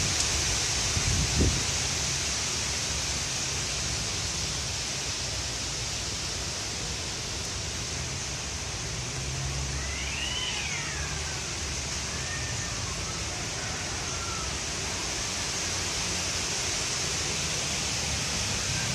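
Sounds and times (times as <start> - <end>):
gusty wind through trees: 0.0 - 18.9.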